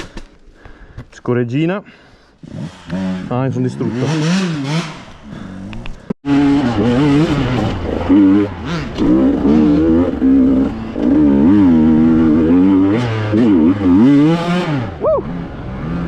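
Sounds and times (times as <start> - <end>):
two-stroke motorcycle engine revving: 2.4 - 16.0.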